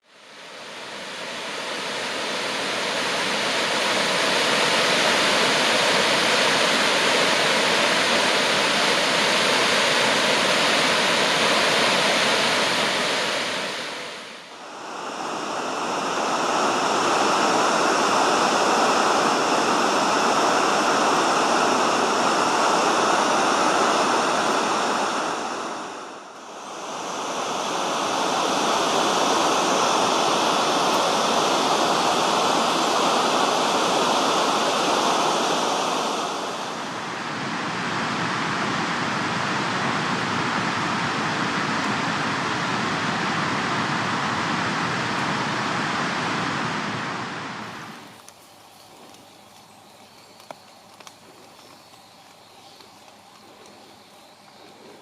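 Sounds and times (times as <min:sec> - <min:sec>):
rushing flowing water: 0:00.3 - 0:55.0.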